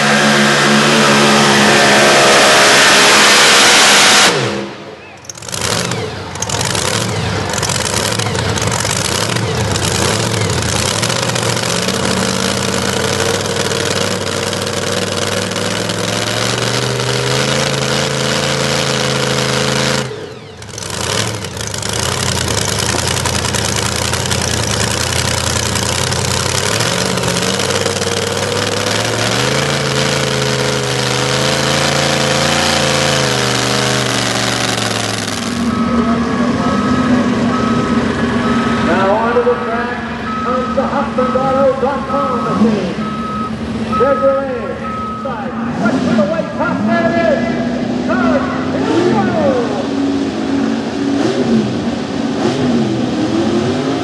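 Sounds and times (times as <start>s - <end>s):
truck engine at full throttle: 0.0s - 54.0s
truck engines at high idle: 4.4s - 54.0s.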